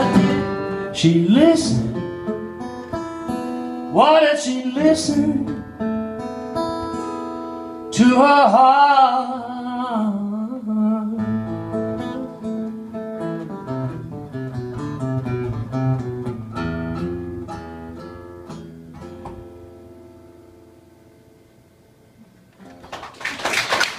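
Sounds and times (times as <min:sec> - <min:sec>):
acoustic guitars playing: 0:00.0 - 0:23.1.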